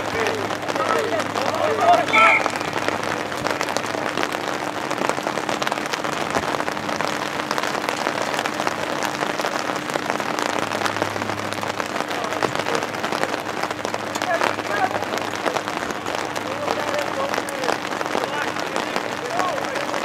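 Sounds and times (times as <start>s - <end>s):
faint steady hum: 0.0s - 20.0s
steady rain drops ticking: 0.0s - 20.0s.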